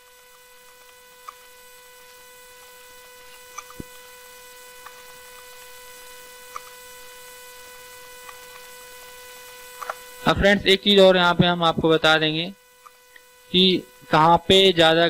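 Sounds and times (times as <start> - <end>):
electrical hum with high whine: 0.0 - 15.0.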